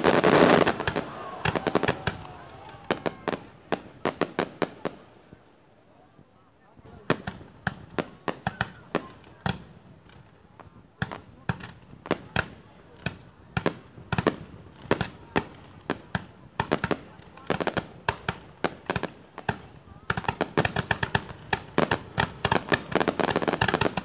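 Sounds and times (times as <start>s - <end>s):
fireworks firing sharp bangs: 0.0s - 5.0s, 6.9s - 24.0s.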